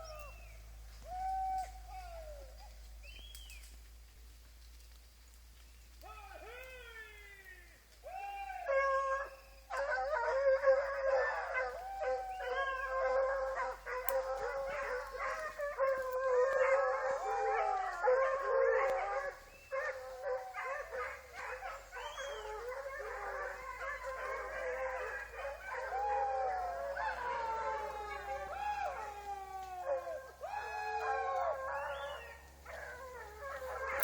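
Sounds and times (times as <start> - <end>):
dogs howling together: 0.0 - 2.9, 8.0 - 34.0.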